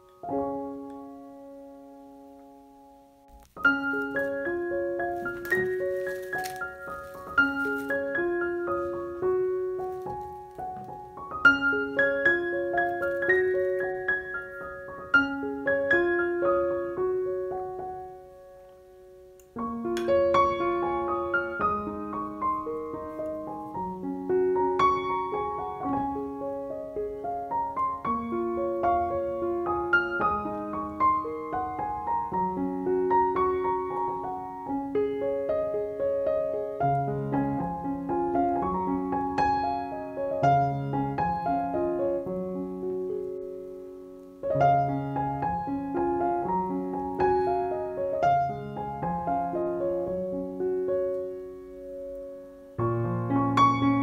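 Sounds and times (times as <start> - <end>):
background piano music: 0.0 - 54.0.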